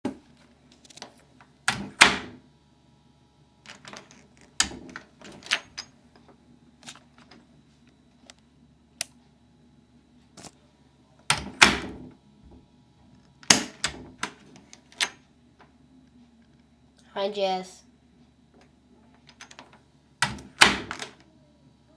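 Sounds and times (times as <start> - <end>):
faint low hum: 0.1 - 21.9.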